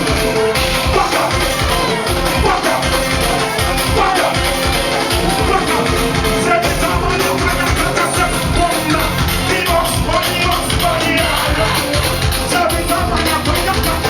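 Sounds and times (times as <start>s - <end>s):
loud party music with heavy bass: 0.0s - 14.0s
person singing: 0.0s - 14.0s.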